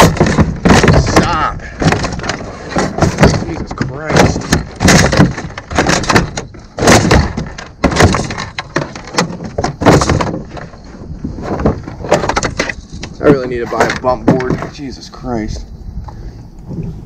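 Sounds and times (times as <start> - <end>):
fish thrashing on boat deck: 0.0 - 14.7.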